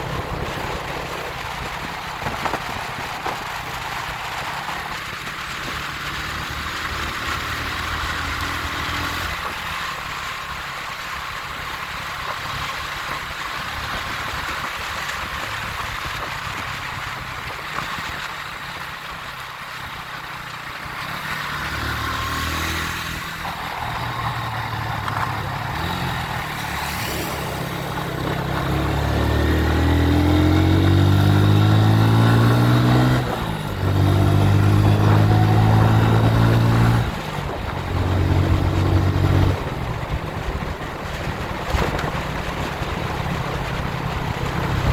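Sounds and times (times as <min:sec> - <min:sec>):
steady rushing noise: 0:00.0 - 0:44.9
vehicle engine accelerating: 0:00.0 - 0:44.9.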